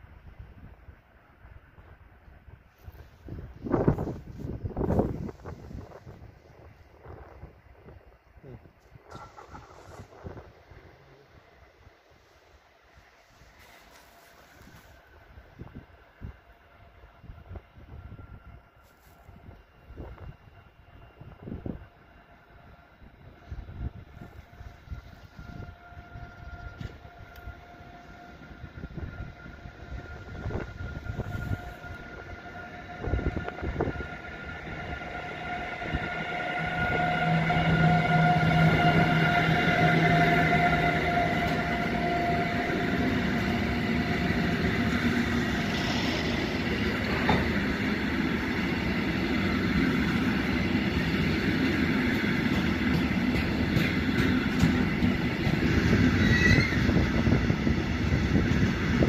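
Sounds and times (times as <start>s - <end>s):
electric locomotive whine and rumble: 0.0s - 59.0s.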